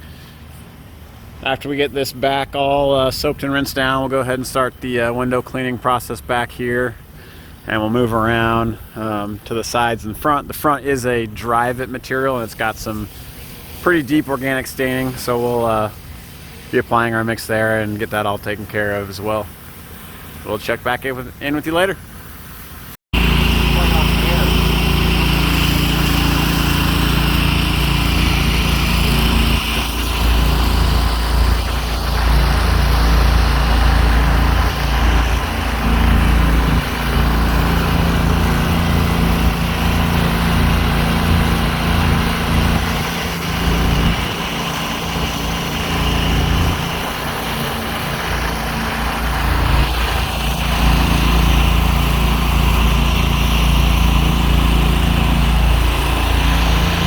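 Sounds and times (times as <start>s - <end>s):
pressure washer engine drone: 0.0s - 57.0s.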